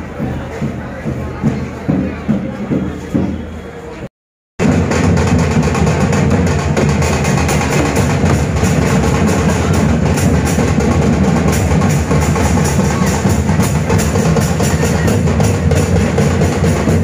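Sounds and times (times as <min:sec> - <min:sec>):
drums beaten in fast rhythm: 0:00.0 - 0:03.6, 0:04.6 - 0:17.0.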